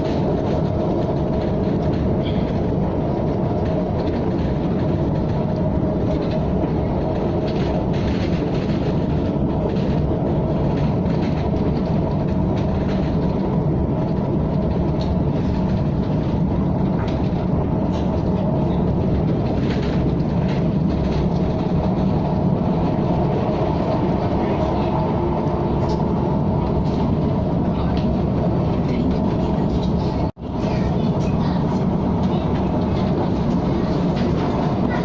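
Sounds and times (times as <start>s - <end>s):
train rumbling: 0.0s - 35.0s
wheels clicking on track: 0.0s - 35.0s.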